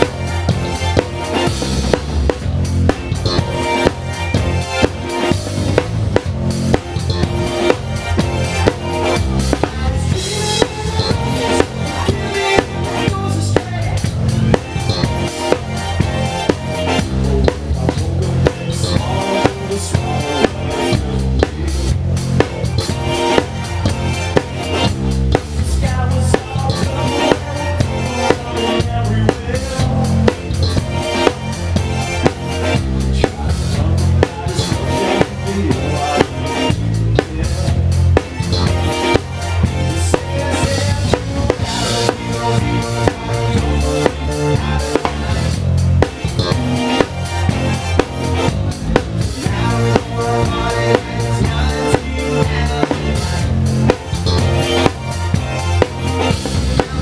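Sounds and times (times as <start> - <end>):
bass drum: 0.0 - 57.0
live band playing: 0.0 - 57.0.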